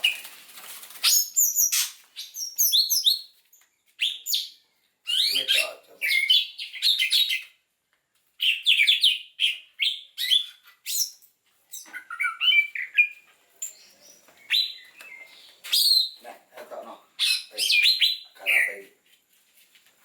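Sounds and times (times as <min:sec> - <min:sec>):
small songbird chirping: 0:01.0 - 0:07.6, 0:08.4 - 0:18.9.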